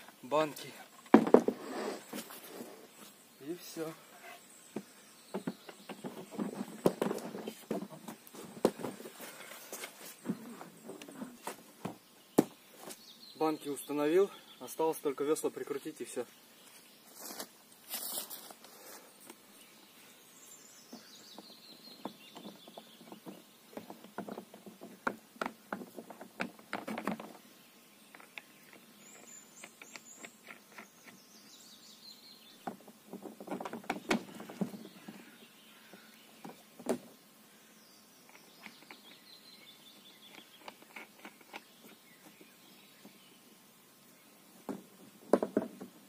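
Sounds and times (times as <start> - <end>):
bird singing: 0.0 - 17.4, 19.4 - 44.8.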